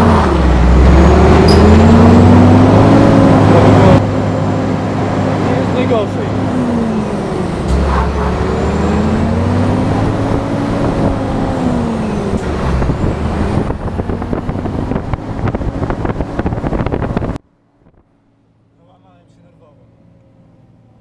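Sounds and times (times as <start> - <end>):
truck diesel engine climbing: 0.0 - 21.0.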